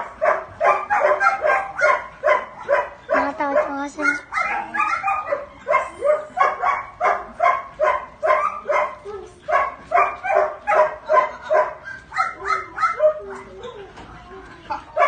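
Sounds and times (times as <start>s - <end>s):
dog barking: 0.0s - 13.6s.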